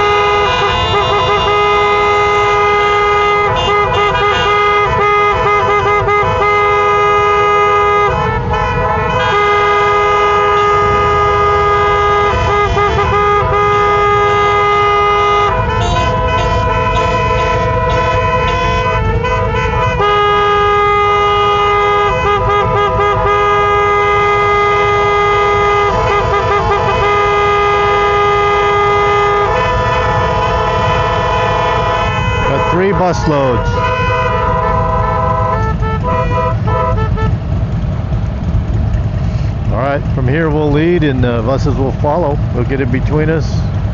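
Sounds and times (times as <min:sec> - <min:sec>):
vehicle horns blasting: 0:00.0 - 0:43.8
idling engines rumbling: 0:00.0 - 0:43.9.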